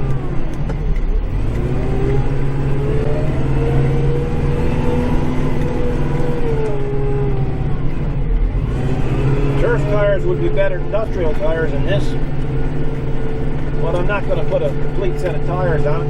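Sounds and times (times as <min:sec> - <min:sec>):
engine whine: 0:00.0 - 0:16.0
tractor diesel engine running: 0:00.0 - 0:16.0.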